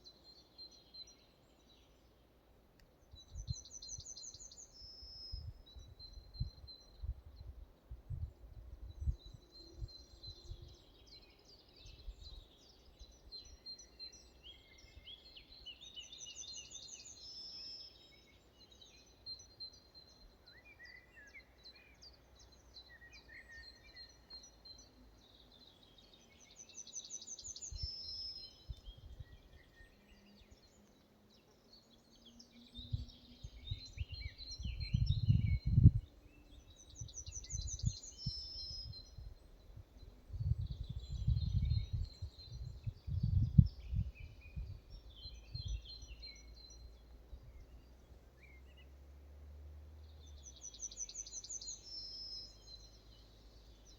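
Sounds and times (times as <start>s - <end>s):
birds singing: 3.0s - 49.2s, 50.0s - 53.9s.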